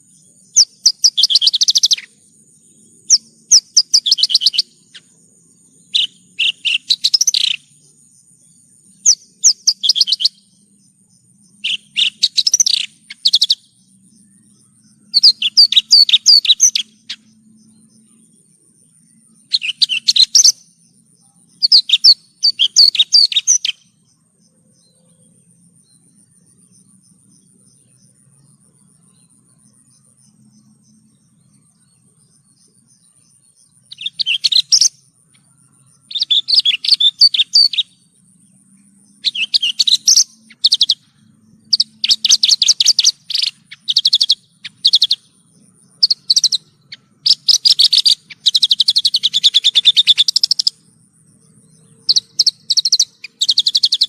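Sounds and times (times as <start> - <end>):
bush lark singing trilled phrases: 0.0 - 54.0.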